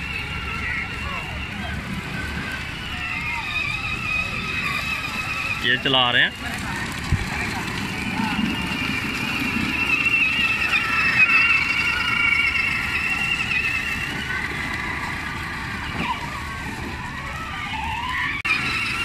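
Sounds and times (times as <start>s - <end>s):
electric toy motors whining: 0.0s - 19.0s.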